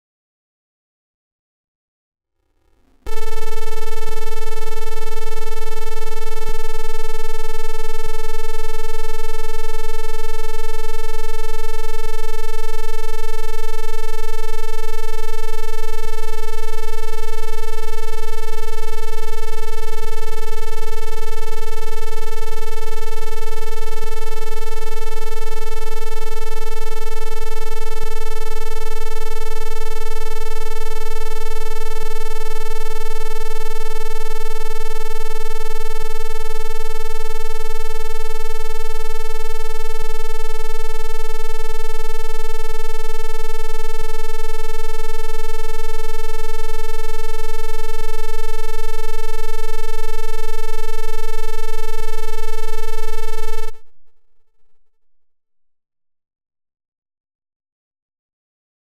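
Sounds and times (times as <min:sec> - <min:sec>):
continuous electronic beep: 0:03.1 - 0:53.8.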